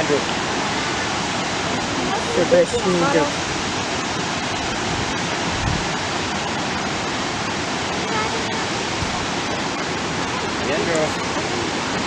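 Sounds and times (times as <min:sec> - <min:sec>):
waterfalls rushing: 0:00.0 - 0:12.0.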